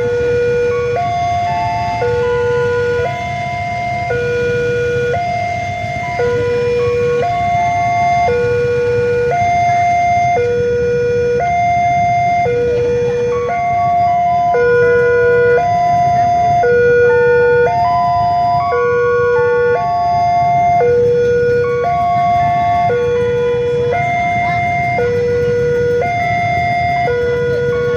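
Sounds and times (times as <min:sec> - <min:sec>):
higher-pitched alarm tones: 0:00.0 - 0:27.9
two-tone crossing alarm: 0:00.0 - 0:27.9.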